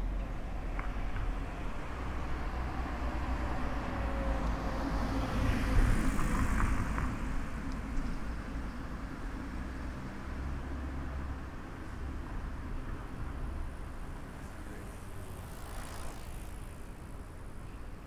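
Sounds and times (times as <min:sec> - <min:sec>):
car passing by: 0:00.6 - 0:17.6.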